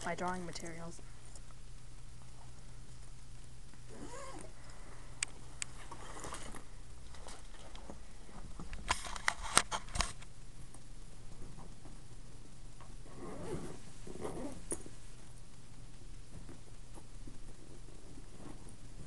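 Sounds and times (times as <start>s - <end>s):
soft rustling: 0.0s - 19.0s.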